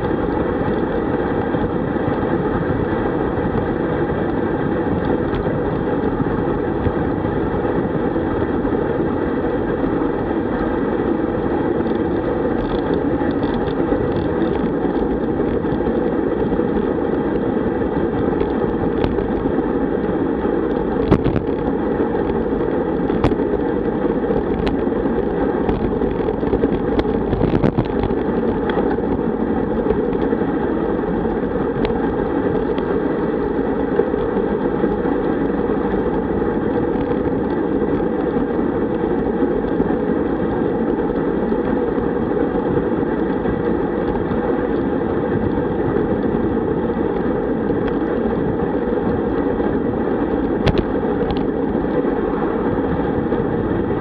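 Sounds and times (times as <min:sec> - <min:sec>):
tyre and road noise: 0:00.0 - 0:54.0
wind buffeting microphone: 0:00.0 - 0:54.0.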